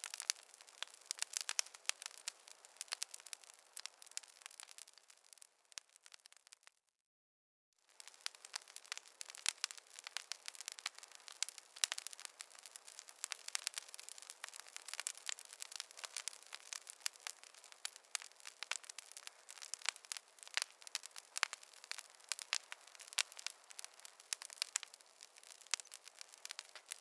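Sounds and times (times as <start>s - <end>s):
campfire crackling: 0.0s - 6.7s, 7.8s - 27.0s.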